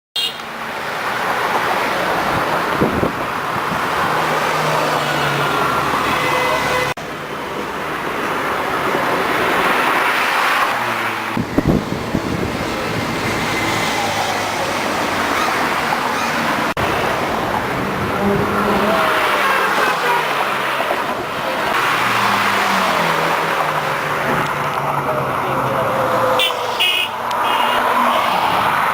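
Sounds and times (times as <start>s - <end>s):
traffic noise: 0.2s - 28.9s
sports car engines passing: 0.7s - 28.9s.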